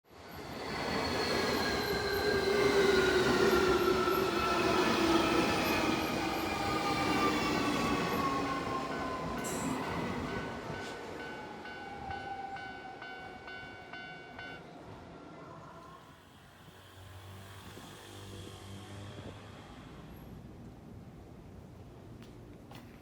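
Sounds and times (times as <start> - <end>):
electric train whine: 0.2 - 20.3.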